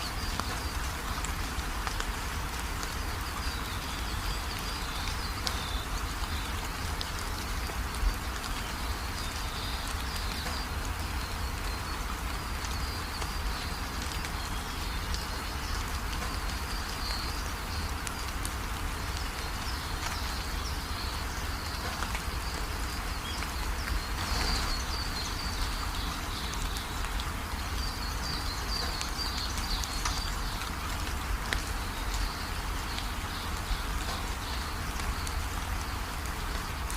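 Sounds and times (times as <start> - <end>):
rain pattering: 0.0 - 36.9.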